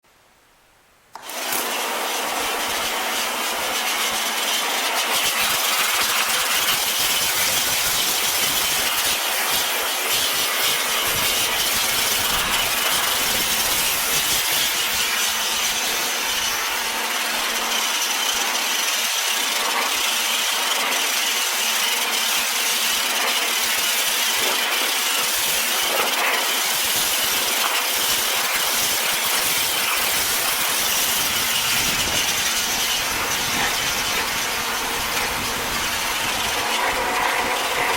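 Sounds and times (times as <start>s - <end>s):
pressure washer spraying tin: 1.2s - 37.9s.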